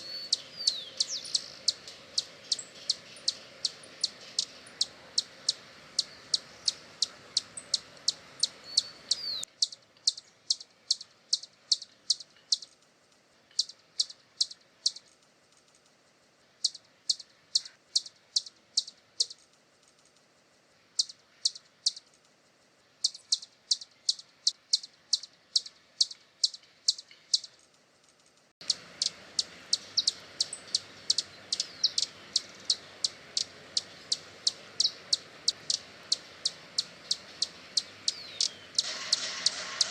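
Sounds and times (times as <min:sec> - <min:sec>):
hummingbird chip calls: 0:00.0 - 0:12.8, 0:13.4 - 0:15.2, 0:16.6 - 0:19.5, 0:20.9 - 0:22.2, 0:23.0 - 0:27.7, 0:28.6 - 0:39.9.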